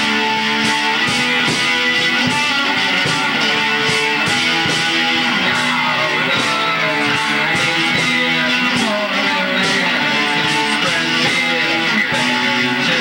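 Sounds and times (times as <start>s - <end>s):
distorted electric guitars: 0.0s - 13.0s
heavy metal band playing: 0.0s - 13.0s.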